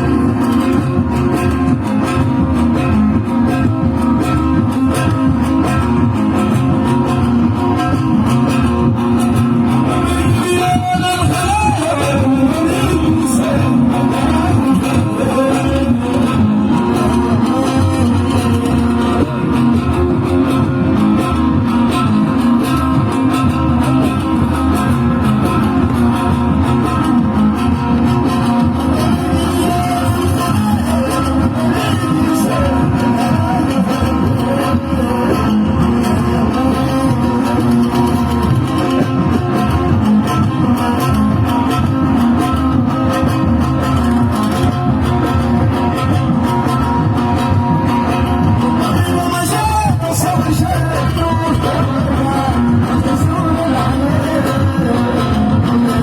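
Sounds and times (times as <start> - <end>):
instrumental band music: 0.0 - 56.0.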